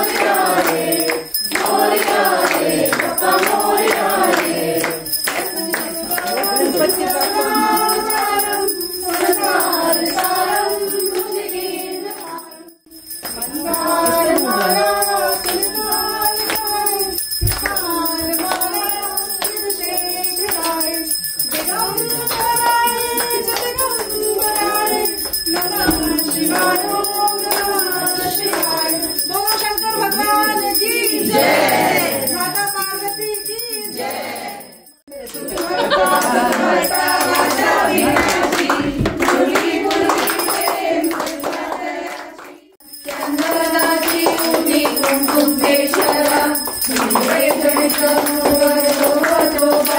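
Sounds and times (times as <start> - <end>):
devotional singing: 0.0 - 49.9
jingling beat: 0.0 - 49.9.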